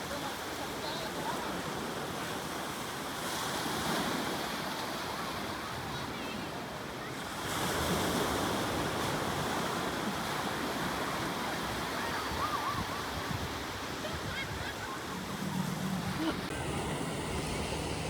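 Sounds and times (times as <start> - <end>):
wind: 0.0 - 18.0
sea surf washing on shore: 0.1 - 18.0.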